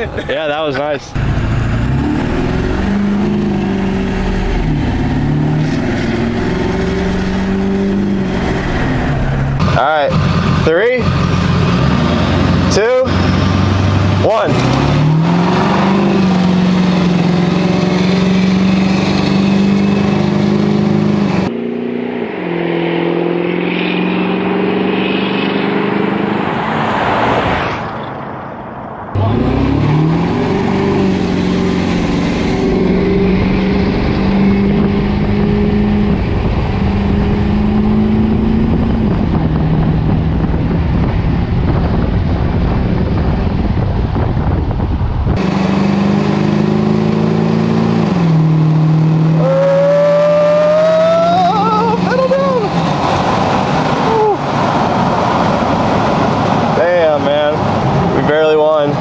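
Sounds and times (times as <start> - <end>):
diesel engines at full throttle: 0.0 - 59.0.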